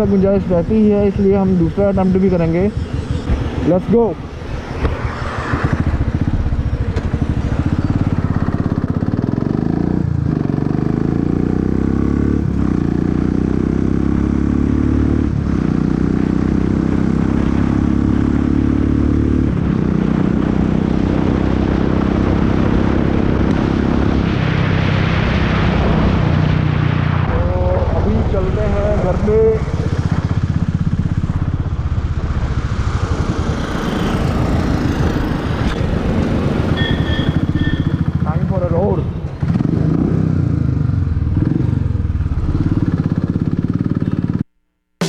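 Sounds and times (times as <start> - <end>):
motorcycle engine at full throttle: 0.0 - 44.4.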